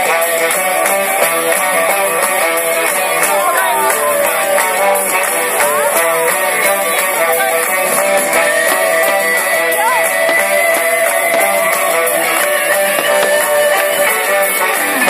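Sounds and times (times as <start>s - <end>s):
rock music with strummed guitar: 0.0s - 15.0s.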